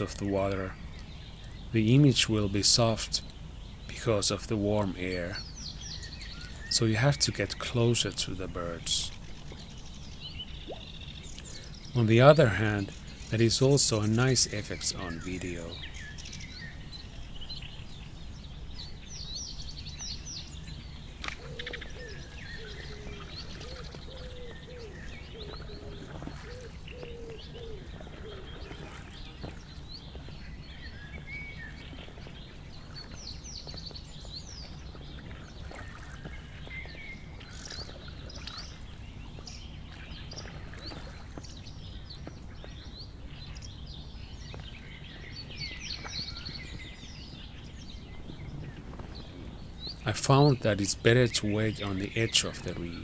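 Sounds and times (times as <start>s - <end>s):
low background rumble: 0.0s - 53.0s
small birds chirping: 0.0s - 53.0s
soft low bird calls: 0.0s - 53.0s.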